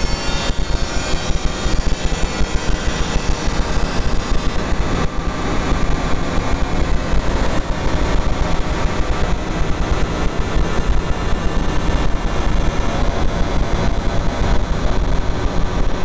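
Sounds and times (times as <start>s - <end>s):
harsh distorted electronic noise: 0.0s - 16.0s.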